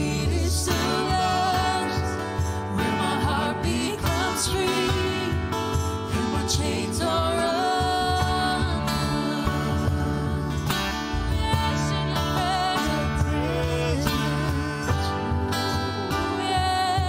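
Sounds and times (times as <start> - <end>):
bass guitar: 0.0 - 17.0
stage piano: 0.0 - 17.0.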